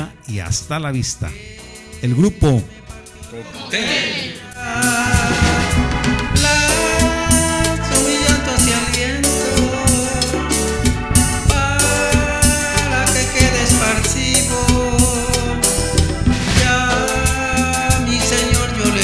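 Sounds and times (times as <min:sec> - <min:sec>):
latin dance band music: 0:00.0 - 0:19.0.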